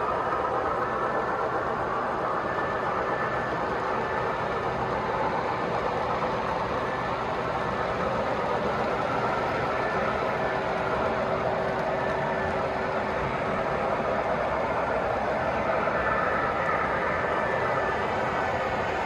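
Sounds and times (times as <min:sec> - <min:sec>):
model trains rumbling on track: 0:00.0 - 0:19.0.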